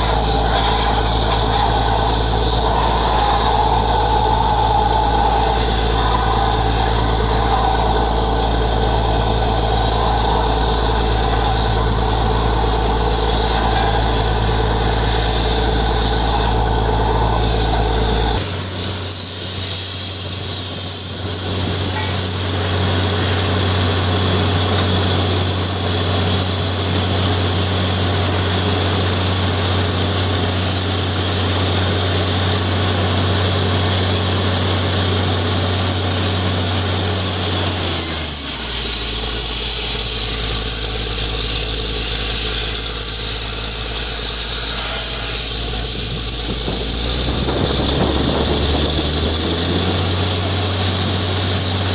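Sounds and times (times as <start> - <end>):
drilling rig engine running: 0.0 - 51.9
loud high hiss: 0.0 - 51.9.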